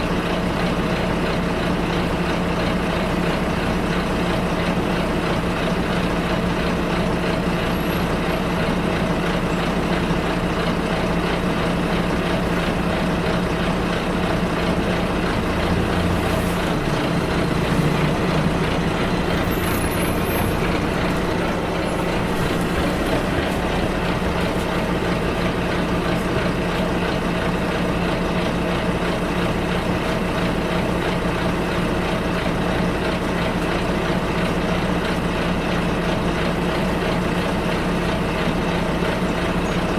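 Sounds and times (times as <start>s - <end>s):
bus engine running: 0.0s - 39.9s
road and cabin noise: 0.0s - 39.9s.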